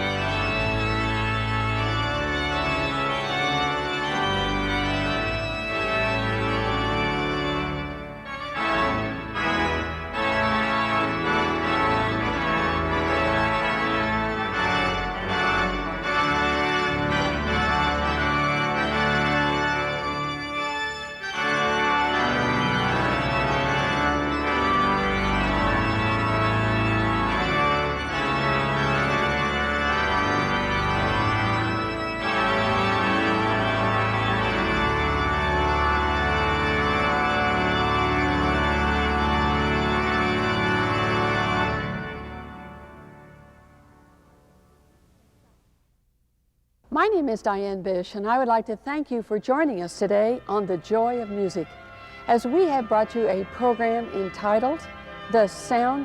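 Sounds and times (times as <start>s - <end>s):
pipe organ chords: 0.0s - 45.2s, 50.2s - 56.0s.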